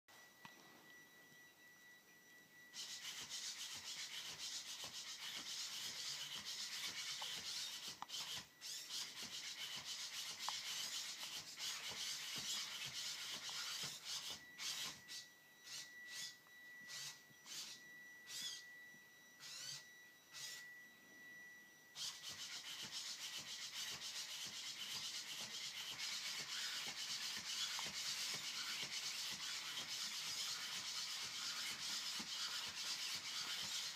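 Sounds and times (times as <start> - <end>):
faint high whine: 0.1 - 33.9
robot servos whirring: 2.7 - 18.6, 19.4 - 20.6, 22.0 - 33.9.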